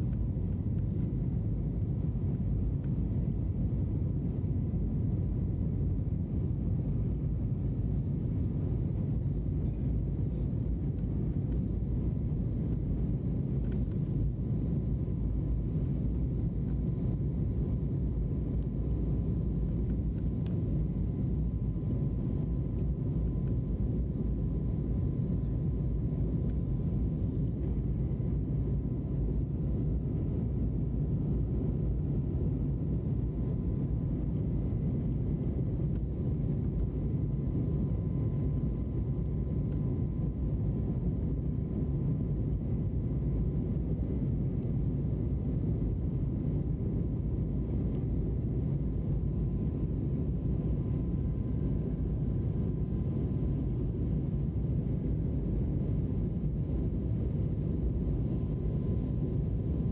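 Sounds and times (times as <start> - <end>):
airliner engine rumble: 0.0 - 59.9
faint steady hum: 0.0 - 59.9.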